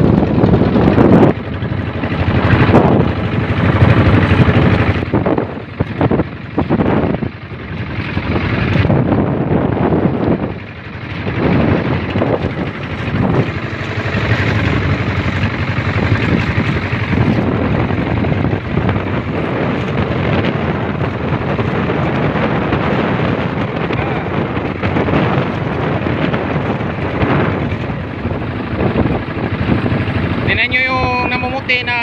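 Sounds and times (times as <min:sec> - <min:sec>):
boat engine: 0:00.0 - 0:32.0
water: 0:00.0 - 0:32.0
wind buffeting microphone: 0:00.0 - 0:32.0.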